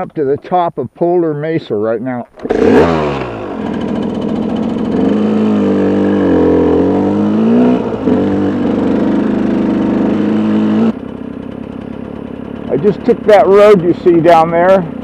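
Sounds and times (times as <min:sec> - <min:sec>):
dirt bike engine running: 0:02.3 - 0:15.0.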